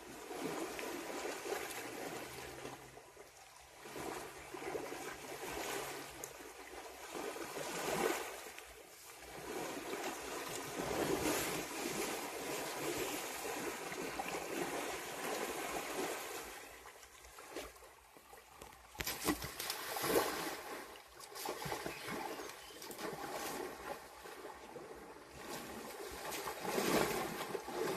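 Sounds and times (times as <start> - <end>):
water sloshing and splashing: 0.0 - 27.9.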